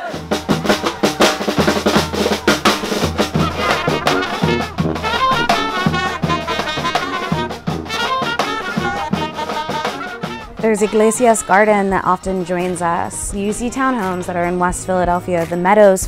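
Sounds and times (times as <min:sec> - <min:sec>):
trumpets and saxophone melody: 0:00.0 - 0:13.0.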